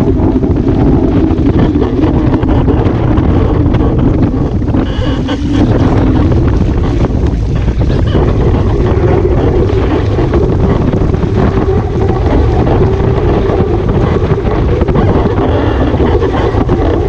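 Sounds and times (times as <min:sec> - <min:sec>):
rushing water and spray: 0:00.0 - 0:17.0
wind buffeting microphone: 0:00.0 - 0:17.0.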